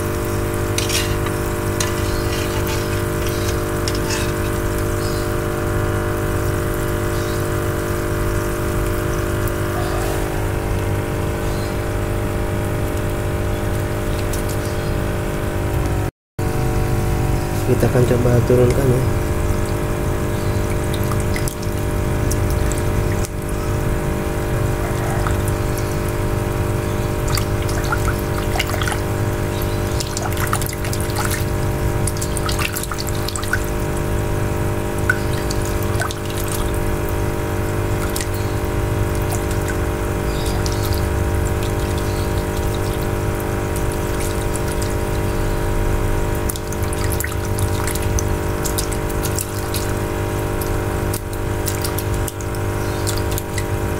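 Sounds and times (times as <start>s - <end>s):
steady machine hum: 0.0s - 53.9s
water splashing and trickling: 0.0s - 53.9s.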